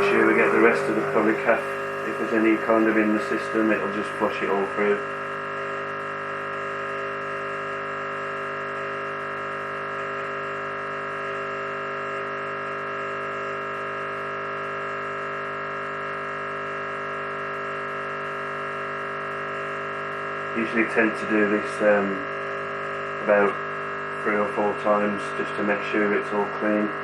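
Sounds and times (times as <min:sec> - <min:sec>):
espresso machine pump buzzing: 0:00.0 - 0:27.0.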